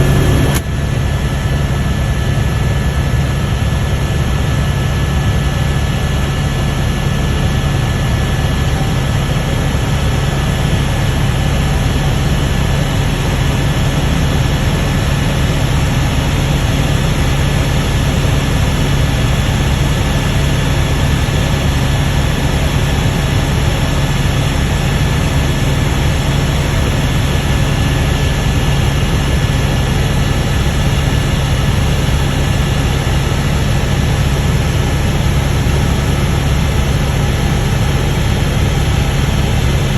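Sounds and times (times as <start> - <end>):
faint high whine: 0.0 - 39.9
helicopter engine and rotor noise: 0.0 - 39.9.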